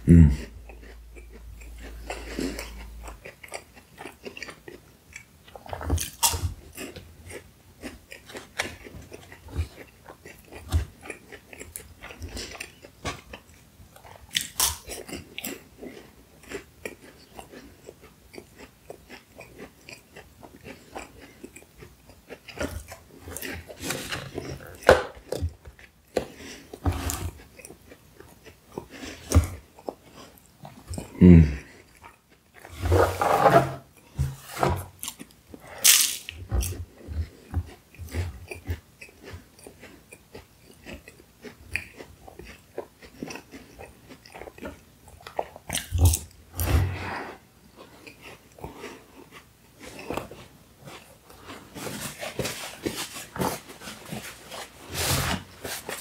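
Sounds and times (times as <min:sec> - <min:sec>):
chewing crunchy pastry: 0:00.0 - 0:33.1, 0:33.8 - 0:56.0.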